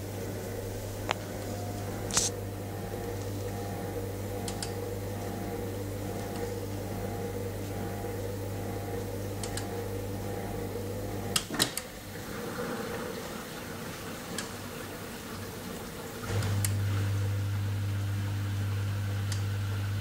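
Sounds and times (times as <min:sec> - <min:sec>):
dishwasher humming: 0:00.0 - 0:20.0.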